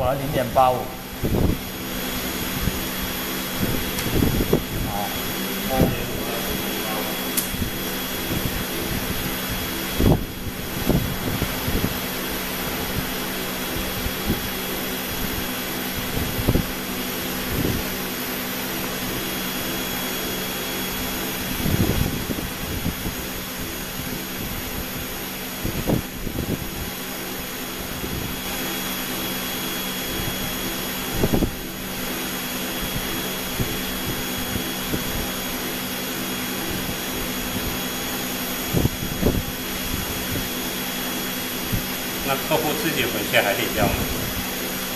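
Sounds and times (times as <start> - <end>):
exhaust equipment hum and rush: 0.0 - 44.9.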